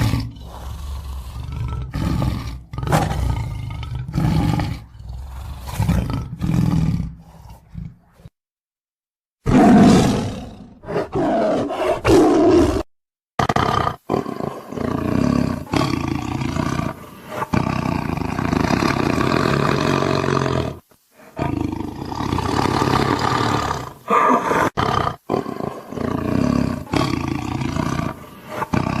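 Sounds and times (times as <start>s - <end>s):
tigers roaring and growling: 0.0s - 8.1s, 9.5s - 29.0s.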